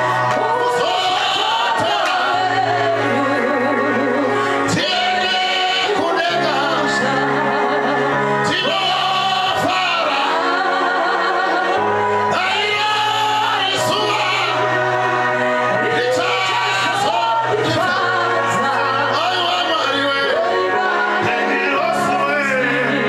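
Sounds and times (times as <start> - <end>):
man singing gospel through a pa: 0.0 - 23.0.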